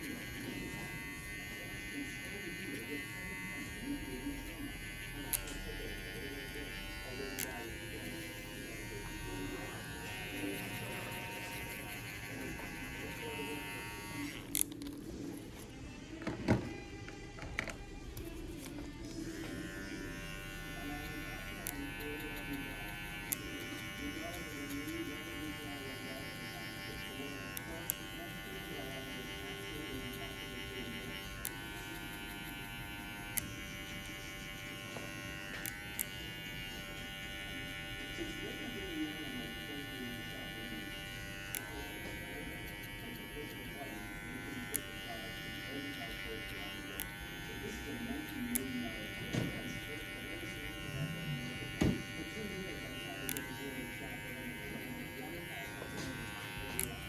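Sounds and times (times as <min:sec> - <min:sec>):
hair clippers buzzing: 0:00.0 - 0:57.0.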